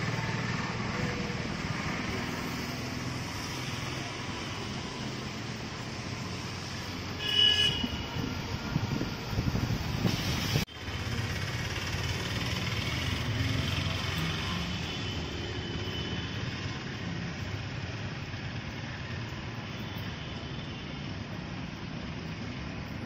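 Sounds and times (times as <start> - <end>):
cars driving on wet road: 0.0 - 20.0.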